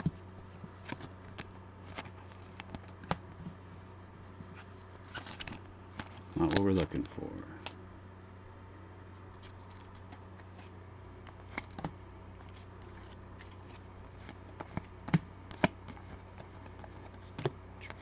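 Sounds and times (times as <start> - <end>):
low steady hum: 0.0 - 18.0
cards rustling: 0.6 - 3.5, 4.4 - 7.8, 9.1 - 18.0.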